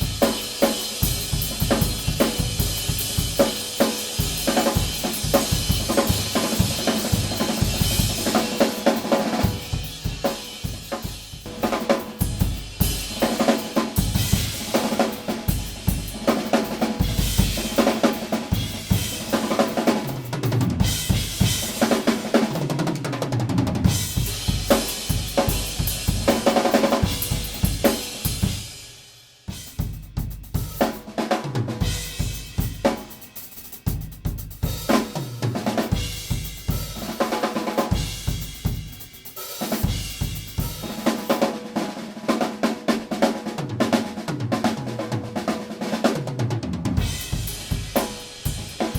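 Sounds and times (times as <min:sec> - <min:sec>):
drum kit played solo: 0:00.0 - 0:48.9.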